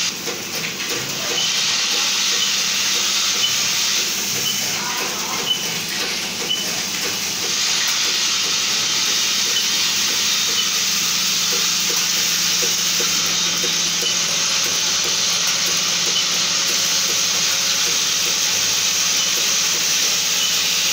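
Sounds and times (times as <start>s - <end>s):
machine hissing rattle: 0.0s - 20.9s.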